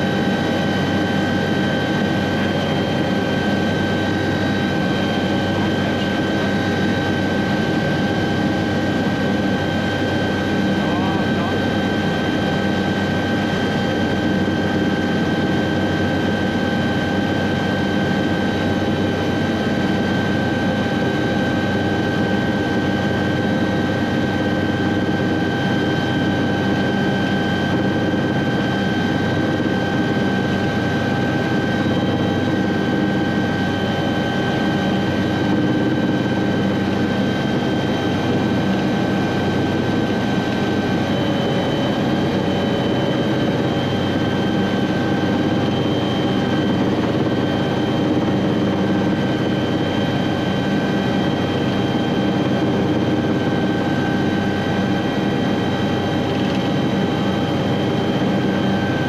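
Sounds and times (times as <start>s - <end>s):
helicopter engine whine and rumble: 0.0s - 59.0s.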